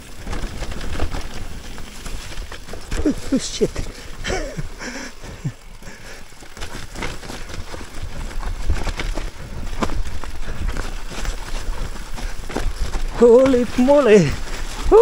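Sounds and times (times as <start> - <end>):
bike rattling: 0.0 - 15.0
bike tyres on dirt and rock: 0.0 - 15.0.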